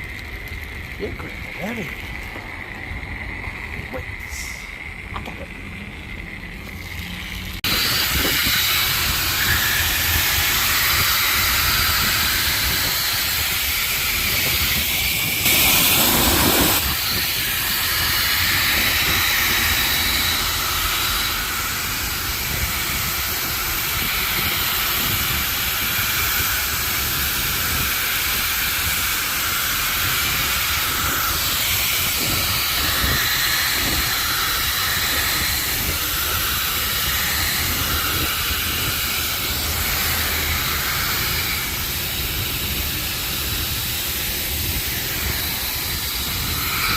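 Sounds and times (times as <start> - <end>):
pressure washer spraying water: 6.6 - 46.9.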